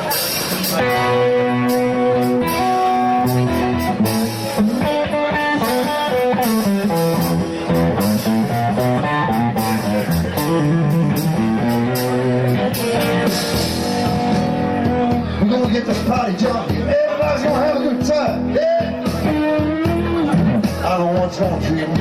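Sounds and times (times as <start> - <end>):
blues band playing: 0.0 - 22.0
electric guitar: 0.0 - 22.0.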